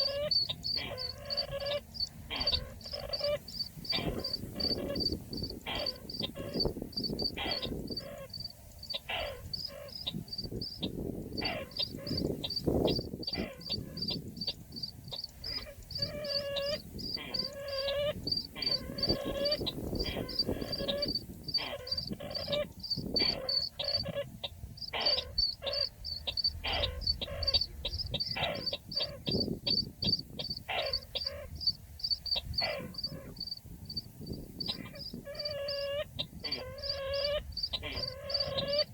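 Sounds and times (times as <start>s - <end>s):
buzzy downward-sweeping bird calls: 0.0s - 33.4s, 34.6s - 38.9s.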